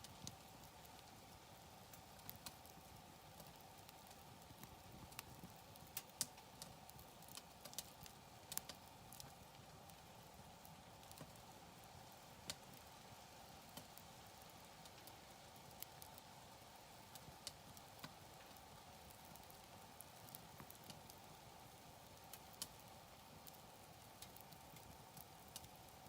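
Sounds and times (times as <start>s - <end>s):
campfire crackling and popping: 0.0s - 26.0s
low steady hiss: 0.0s - 26.0s.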